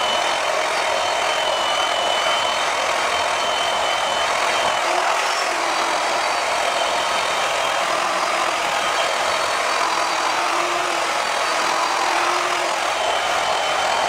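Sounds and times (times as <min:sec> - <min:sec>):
rotary buffer motor whining: 0:00.0 - 0:14.0.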